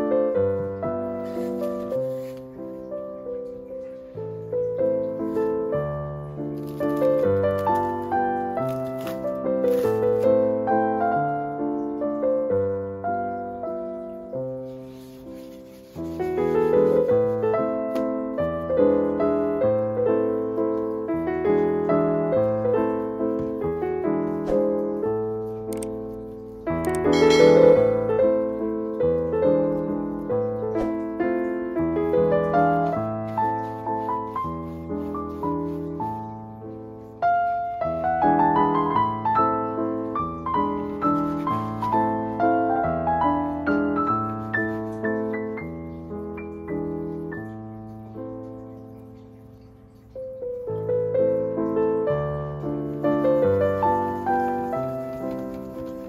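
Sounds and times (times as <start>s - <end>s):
piano music: 0.0s - 56.0s.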